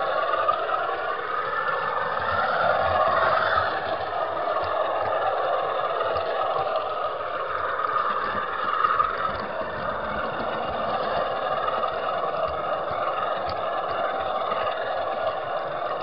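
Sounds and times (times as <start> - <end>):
faint clicks: 0.0 - 16.0
model train wheels whirring: 0.0 - 16.0.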